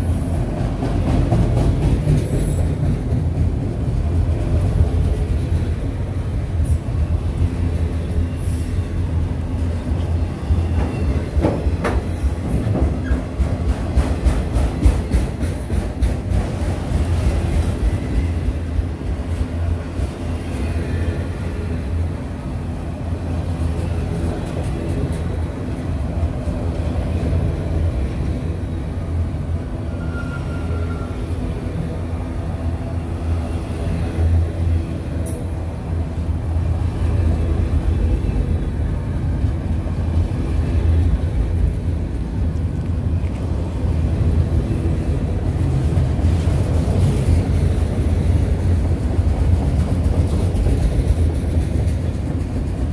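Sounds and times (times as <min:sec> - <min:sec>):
train rumbling past: 0:00.0 - 0:52.9.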